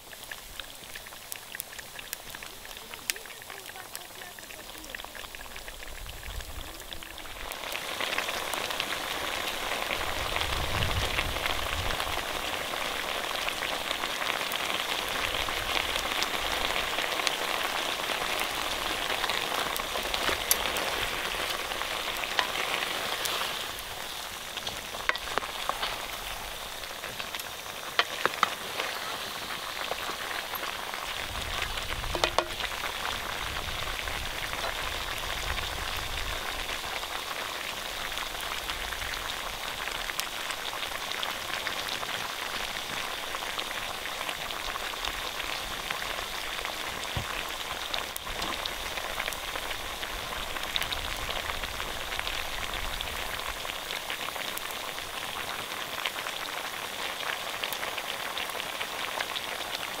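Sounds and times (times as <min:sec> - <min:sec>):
meat sizzling in a pan: 0:00.0 - 1:00.0.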